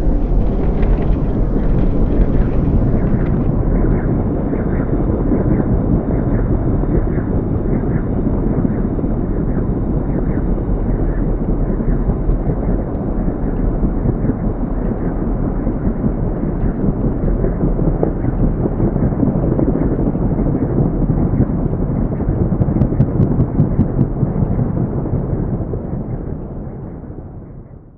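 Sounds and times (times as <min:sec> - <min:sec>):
helicopter rotor and turbine roar: 0:00.0 - 0:27.6.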